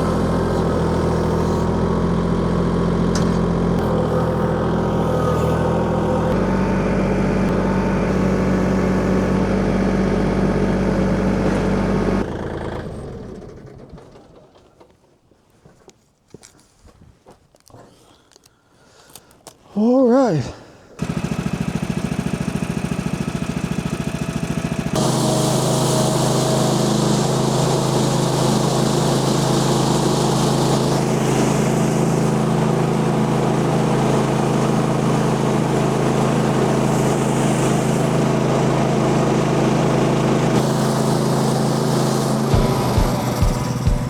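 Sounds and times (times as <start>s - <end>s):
sawmill gas engine running: 0.0s - 14.6s, 21.0s - 44.0s.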